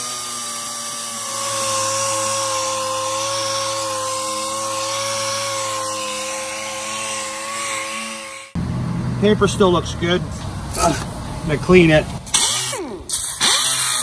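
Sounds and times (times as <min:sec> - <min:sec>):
air sander whining on wood: 0:00.0 - 0:14.0.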